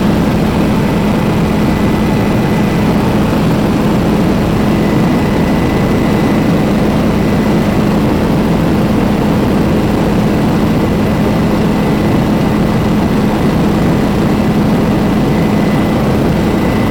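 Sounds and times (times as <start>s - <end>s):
helicopter rotor and engine drone: 0.0s - 16.9s.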